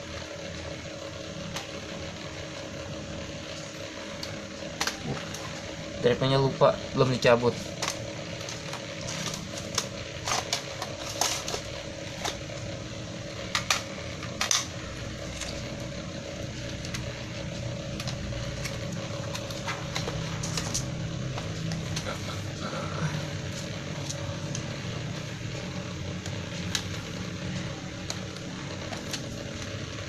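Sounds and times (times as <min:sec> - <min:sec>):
background hum: 0:00.0 - 0:30.0.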